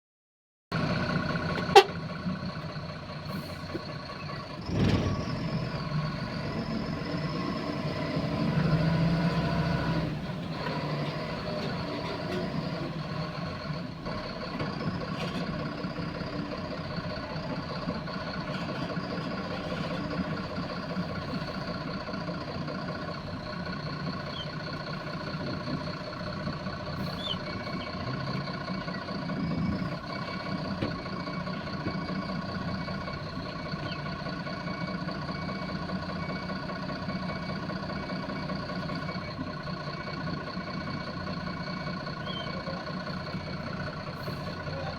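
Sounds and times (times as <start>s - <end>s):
truck engine running: 0.7s - 44.9s.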